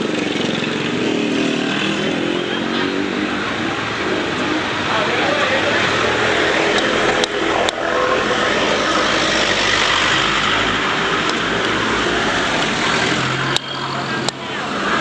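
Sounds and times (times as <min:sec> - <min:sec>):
rushing street noise: 0:00.0 - 0:15.0.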